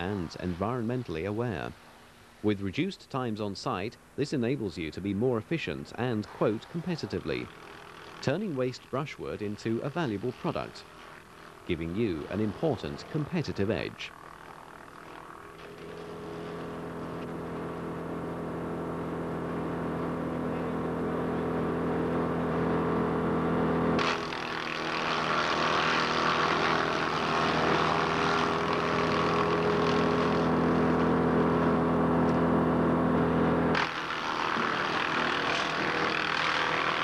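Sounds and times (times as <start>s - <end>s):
wood chipper engine running: 6.0s - 37.0s.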